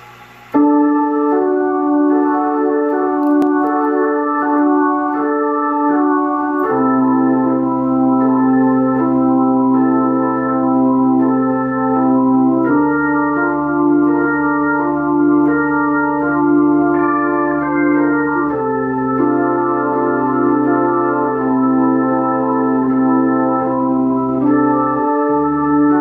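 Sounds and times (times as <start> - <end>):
organ chords through rotating speaker: 0.0 - 26.0
held organ bass note: 0.6 - 26.0.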